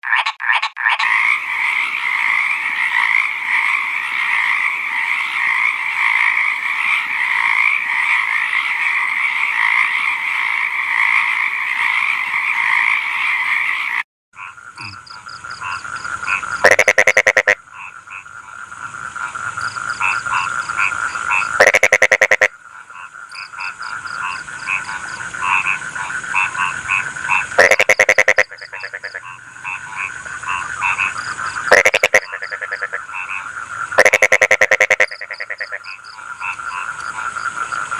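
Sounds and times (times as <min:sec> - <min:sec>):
frog chorus trilling: 0:00.0 - 0:37.9
loud frog pulsed croak: 0:00.0 - 0:37.9.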